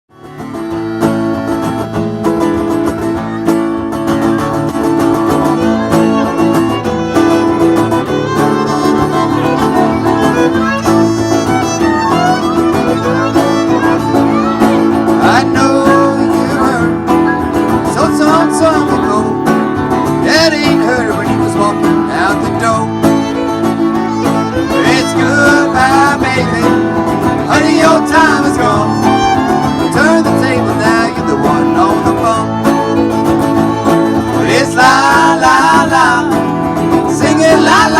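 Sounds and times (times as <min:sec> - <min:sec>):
fiddle melody: 0:00.1 - 0:37.9
strummed guitar: 0:00.1 - 0:37.9.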